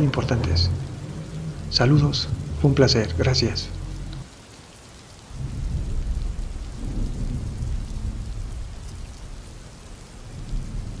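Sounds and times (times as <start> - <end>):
thunder rumbling: 0.0 - 4.3, 5.3 - 11.0
steady rain: 0.0 - 11.0.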